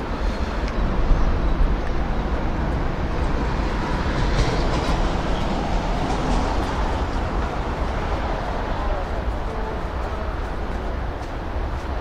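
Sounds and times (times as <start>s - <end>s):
traffic rumble on bridge: 0.0s - 12.0s.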